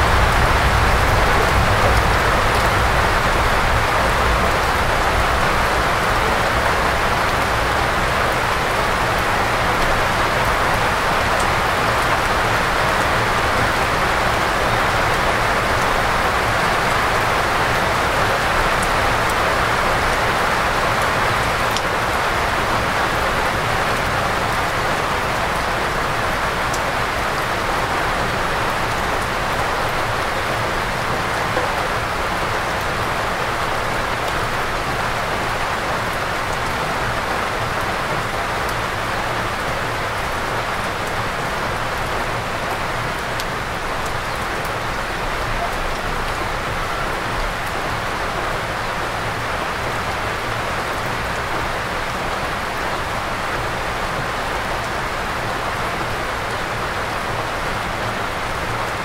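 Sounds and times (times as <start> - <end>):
heavy rain on forest: 0.0 - 59.0.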